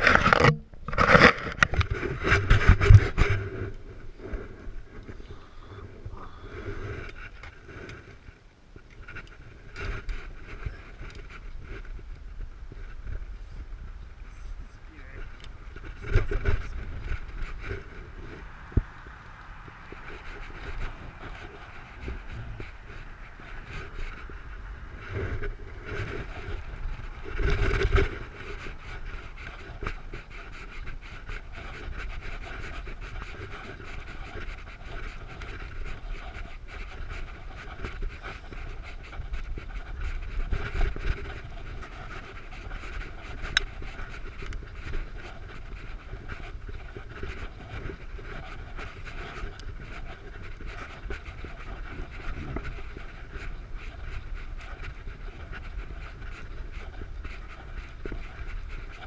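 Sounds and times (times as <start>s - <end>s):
bike moving on road: 0.0s - 59.0s
wind rumble on microphone: 0.0s - 59.0s
cyclist breathing hard: 1.8s - 8.4s, 12.7s - 59.0s.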